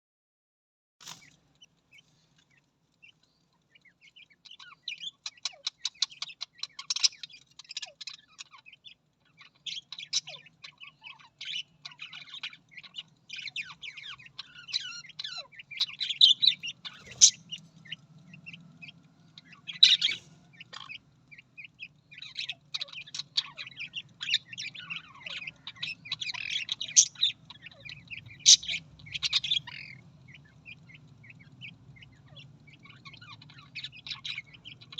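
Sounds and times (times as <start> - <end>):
budgerigars chattering: 1.0 - 34.9
faint low hum: 1.1 - 34.9.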